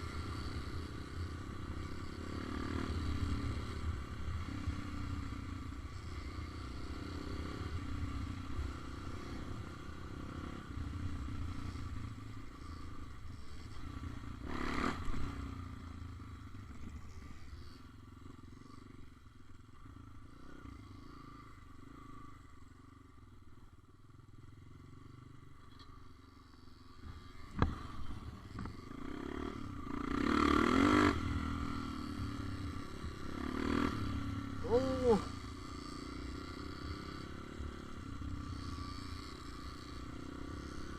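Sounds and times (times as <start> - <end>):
small motorbike engine running: 0.0 - 40.9.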